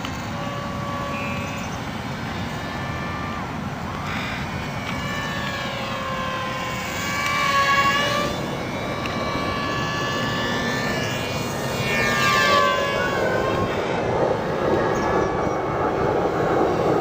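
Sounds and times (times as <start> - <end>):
model airplane motors whining: 0.0 - 17.0.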